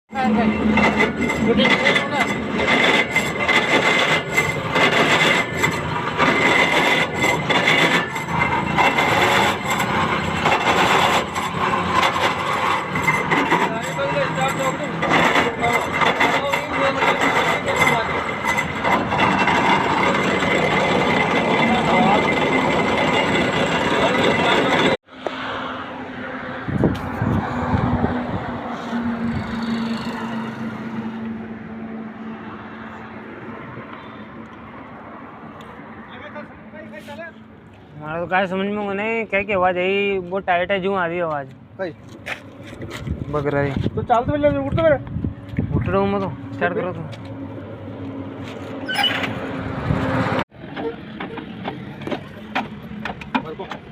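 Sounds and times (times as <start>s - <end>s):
truck differential grinding: 0.1s - 25.0s, 26.7s - 53.9s.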